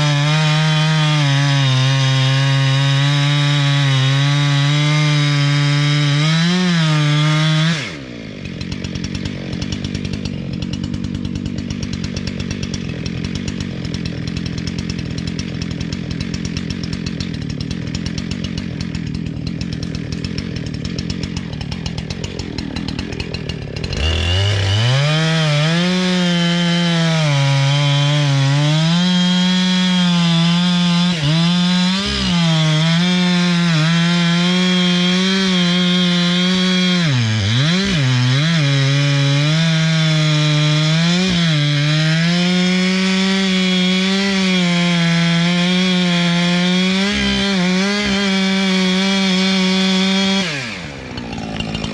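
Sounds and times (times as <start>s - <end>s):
chainsaw cutting wood: 0.0s - 51.9s
chainsaw idling: 0.0s - 51.9s.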